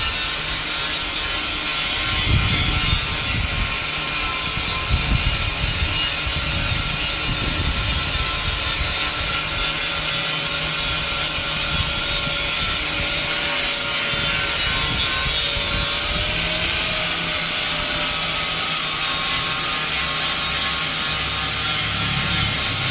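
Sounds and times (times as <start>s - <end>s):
angle grinder grinding metal: 0.0s - 22.9s.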